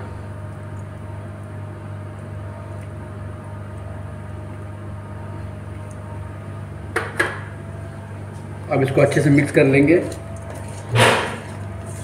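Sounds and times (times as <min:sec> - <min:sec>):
kitchen equipment humming: 0:00.0 - 0:12.0.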